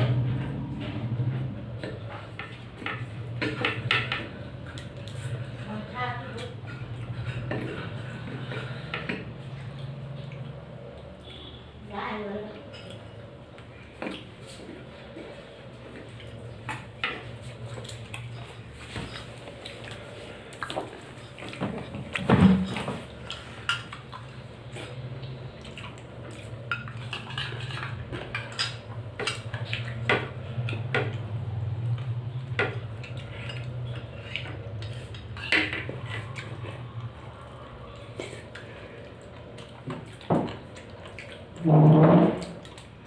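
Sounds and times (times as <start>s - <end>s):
steady low hum: 0.0s - 41.8s.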